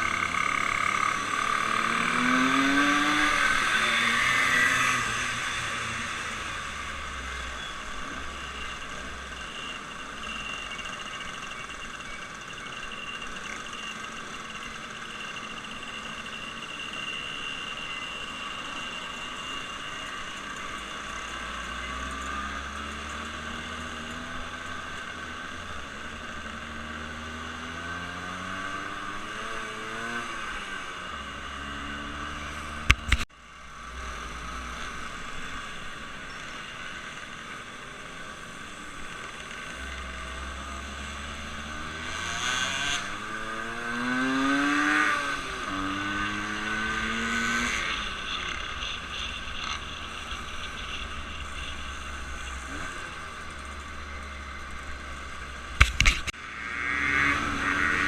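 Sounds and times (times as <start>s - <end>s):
vehicle engines revving: 0.0s - 58.0s.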